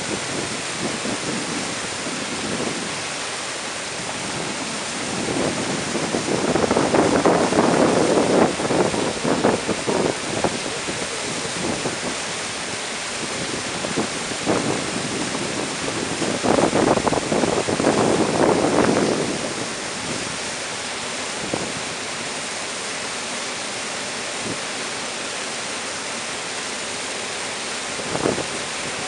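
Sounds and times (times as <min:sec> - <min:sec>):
water rushing over dam spillway: 0:00.0 - 0:29.0.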